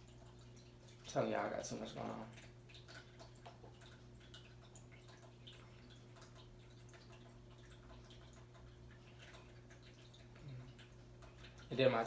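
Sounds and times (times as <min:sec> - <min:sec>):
fountain water trickling and dripping: 0:00.0 - 0:12.0
low steady hum: 0:00.0 - 0:12.0.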